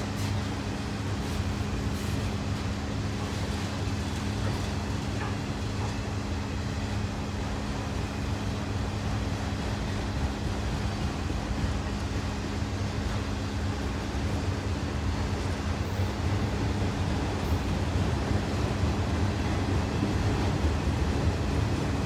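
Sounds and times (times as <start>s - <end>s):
freight train rolling on rails: 0.0s - 22.0s.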